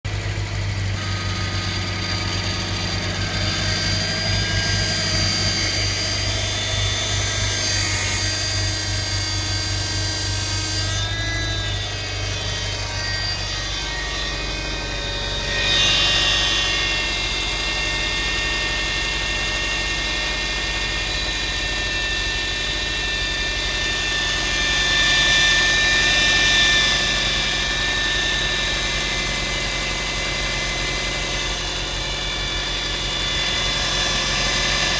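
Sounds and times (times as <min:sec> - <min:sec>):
power steering pump whining: 0:00.1 - 0:34.9.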